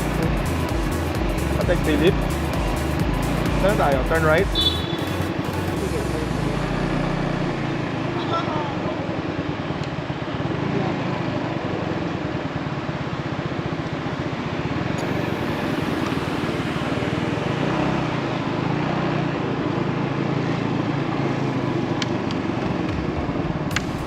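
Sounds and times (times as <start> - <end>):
road noise: 0.0 - 24.0
small motorbike engine running: 0.0 - 24.0.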